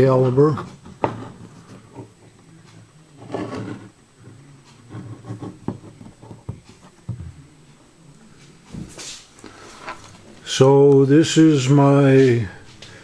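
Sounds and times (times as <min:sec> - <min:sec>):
soft rubbing and rustling: 0:00.0 - 0:11.4.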